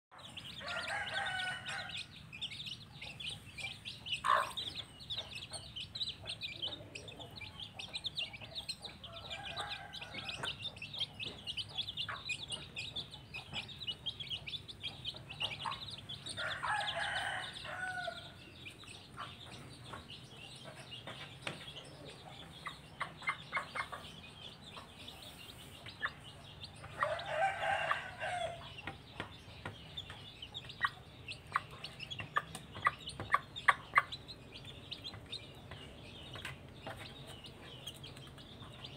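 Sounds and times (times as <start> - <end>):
chicks peeping: 0.1 - 38.9
hen clucking: 0.1 - 38.9.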